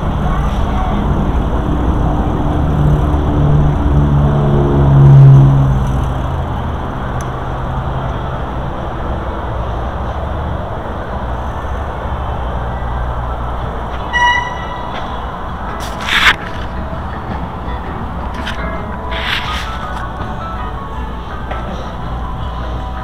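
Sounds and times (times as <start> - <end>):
vehicle engine rising in pitch: 0.0 - 23.0
wind and rolling noise: 0.0 - 23.0.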